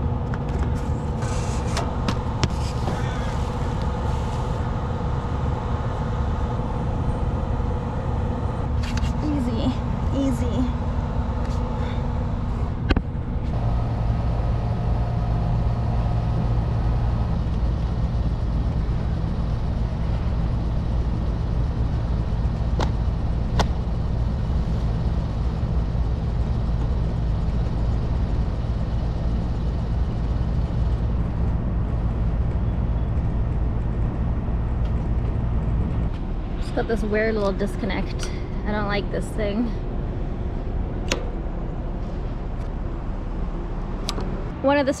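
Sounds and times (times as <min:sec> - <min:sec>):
hvac equipment humming: 0:00.0 - 0:45.0
mechanical whine: 0:00.0 - 0:45.0.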